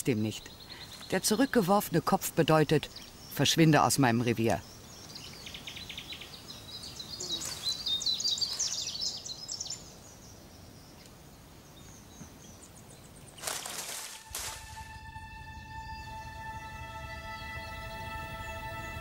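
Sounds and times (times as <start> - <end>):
birds chirping: 0.0 - 19.0
faint open-air ambience: 0.0 - 19.0.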